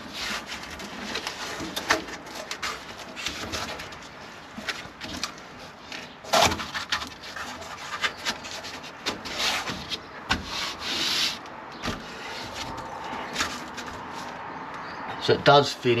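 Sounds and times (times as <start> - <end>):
insulation rubbing and scraping: 0.0 - 16.0.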